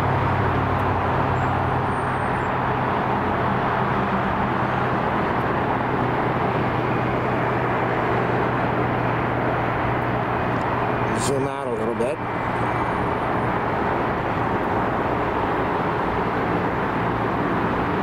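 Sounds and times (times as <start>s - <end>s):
airport and road traffic roar: 0.0s - 18.0s.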